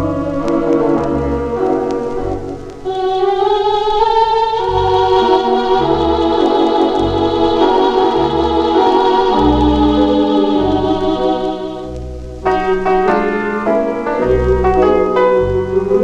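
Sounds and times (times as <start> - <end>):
organ and piano gospel music: 0.0 - 16.0.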